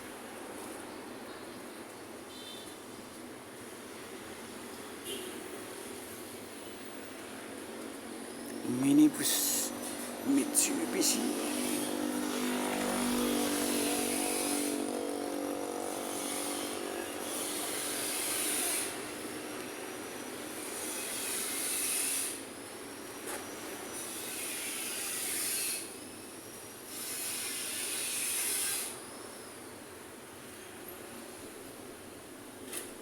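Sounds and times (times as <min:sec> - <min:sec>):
road noise with high hiss: 0:00.0 - 0:33.0.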